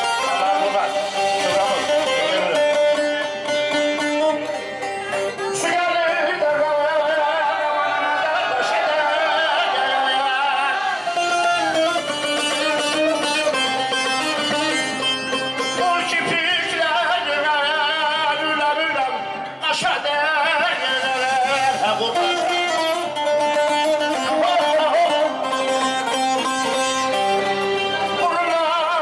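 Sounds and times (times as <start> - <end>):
man singing into a microphone: 0.0 - 29.0
plucked string instrument: 0.0 - 29.0.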